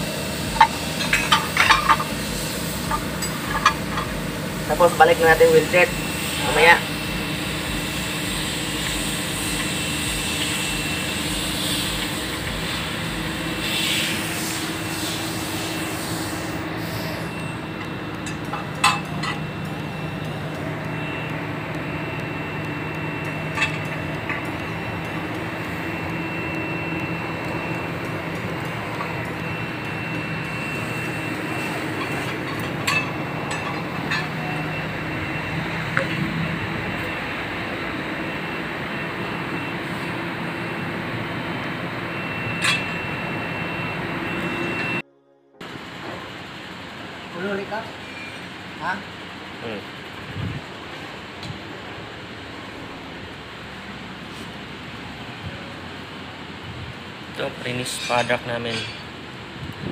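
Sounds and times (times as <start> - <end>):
machinery humming with high whine: 0.0 - 59.9.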